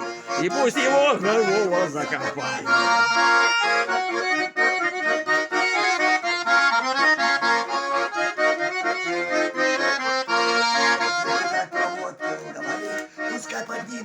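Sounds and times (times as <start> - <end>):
button accordion melody: 0.0 - 14.0.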